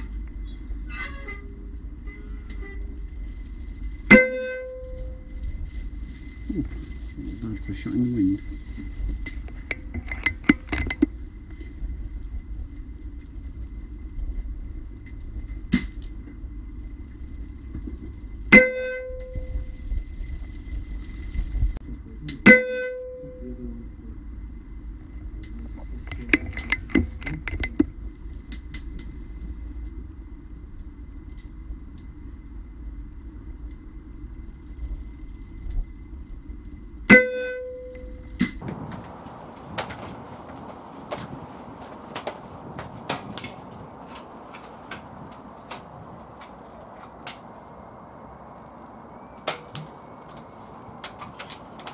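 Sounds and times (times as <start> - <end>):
low wind rumble: 0.0 - 51.9.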